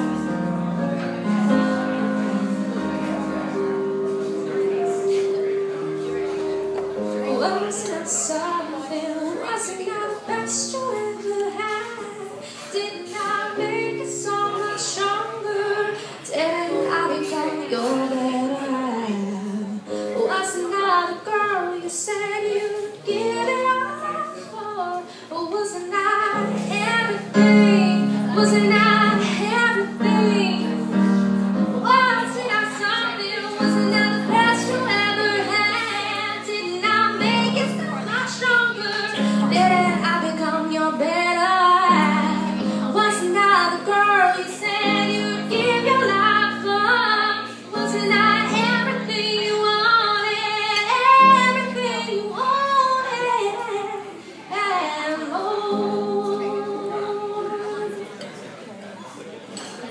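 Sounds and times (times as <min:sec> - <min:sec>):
electric keyboard chords: 0:00.0 - 0:54.2
woman singing: 0:07.1 - 0:58.1.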